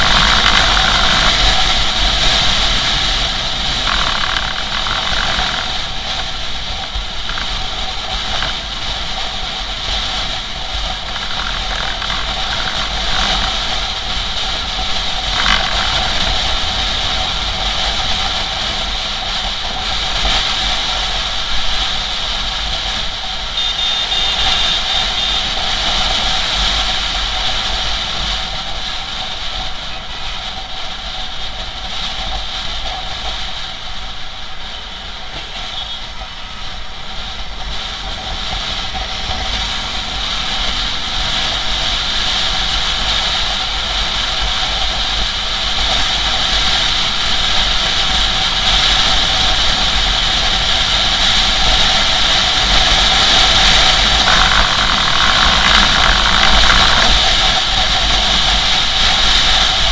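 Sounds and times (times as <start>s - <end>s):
wind rushing over microphone: 0.0s - 23.6s, 24.6s - 59.9s
motorcycle engine: 0.0s - 59.9s.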